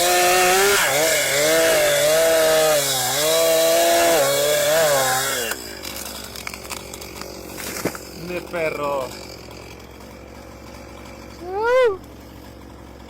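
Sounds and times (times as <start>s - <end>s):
chainsaw engine at high revs: 0.0s - 13.0s.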